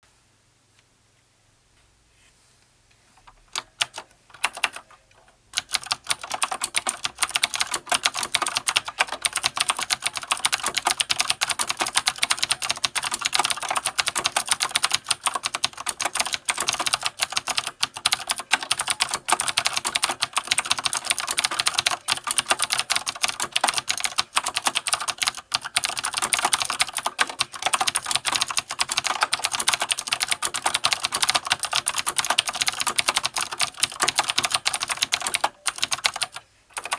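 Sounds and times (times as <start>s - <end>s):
mechanical keyboard typing: 3.6s - 4.9s, 5.6s - 36.9s.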